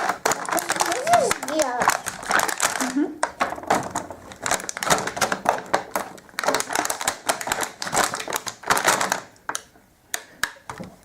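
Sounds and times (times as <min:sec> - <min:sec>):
plastic toy pieces clattering: 0:00.0 - 0:09.7.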